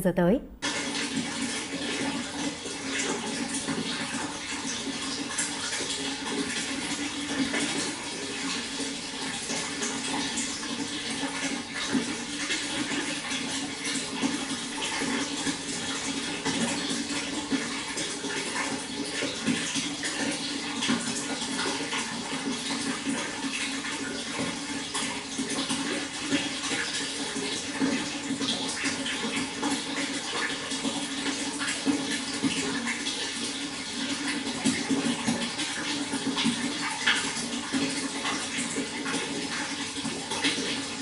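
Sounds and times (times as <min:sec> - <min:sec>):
water flowing with splashes: 0:00.6 - 0:41.0.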